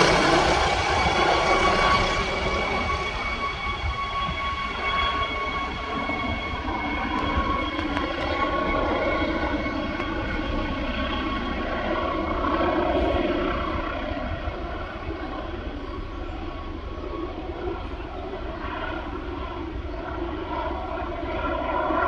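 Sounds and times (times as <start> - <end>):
helicopter rotor rumble: 0.0 - 22.0
helicopter turbine whine: 0.0 - 22.0.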